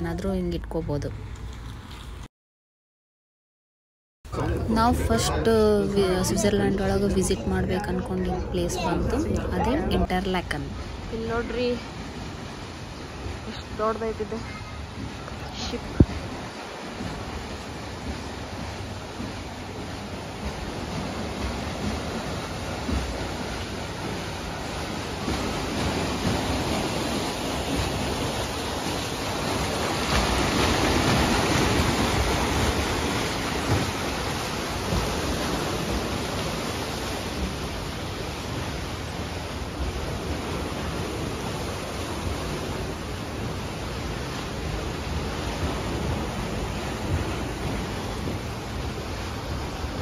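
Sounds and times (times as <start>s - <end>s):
water rushing along hull: 4.3s - 50.0s.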